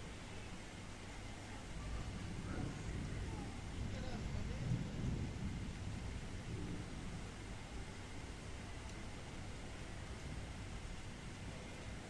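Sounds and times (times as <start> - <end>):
steady rain hiss: 0.0 - 12.0
low thunder rumble: 1.7 - 12.0.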